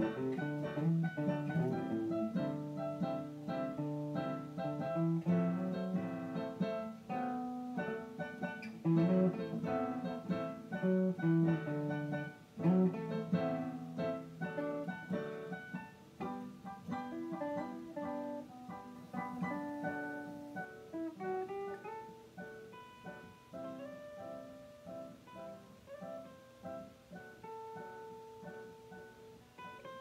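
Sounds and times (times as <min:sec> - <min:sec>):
acoustic guitar: 0:00.0 - 0:30.0
electronic keyboard: 0:00.0 - 0:30.0.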